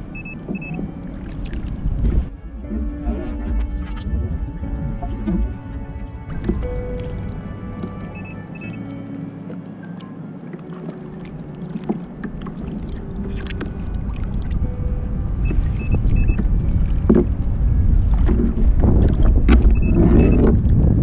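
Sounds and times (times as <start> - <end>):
water lapping against kayak hull: 0.0 - 21.0
wind buffeting microphone: 0.0 - 21.0.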